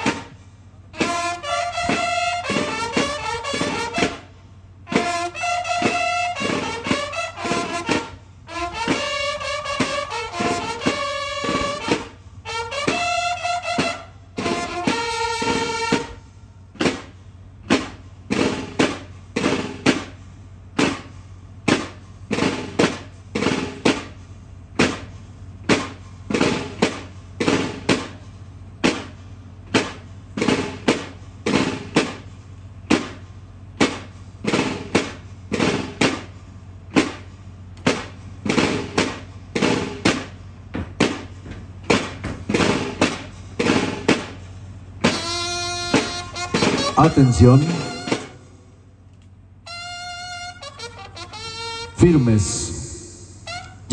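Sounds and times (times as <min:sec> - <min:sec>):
snare and bass drums marching: 0:00.0 - 0:48.6, 0:49.7 - 0:53.9.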